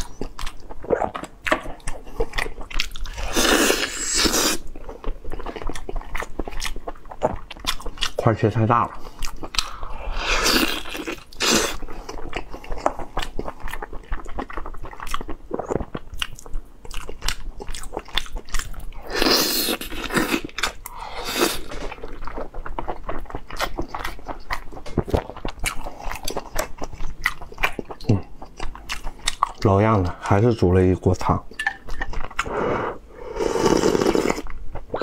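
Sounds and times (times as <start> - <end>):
man chewing meat: 0.0 - 8.2, 8.9 - 30.4, 31.5 - 35.0.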